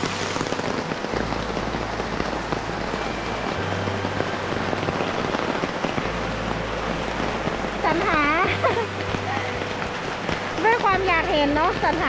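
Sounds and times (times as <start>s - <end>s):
heavy rain pattering on umbrella: 0.0s - 12.0s.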